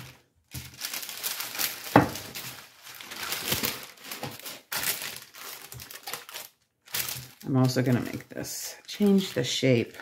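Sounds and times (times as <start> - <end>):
parchment paper crinkling: 0.0 - 10.0.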